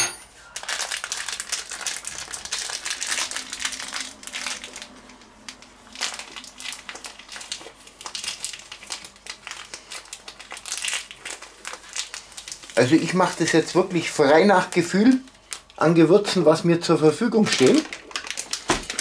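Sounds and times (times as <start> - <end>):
plastic bag crinkling: 0.3 - 19.0.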